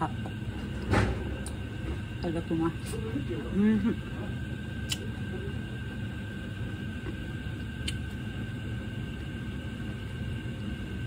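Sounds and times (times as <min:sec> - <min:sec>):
faint whine: 0:00.0 - 0:11.0
low mechanical hum: 0:00.0 - 0:11.0.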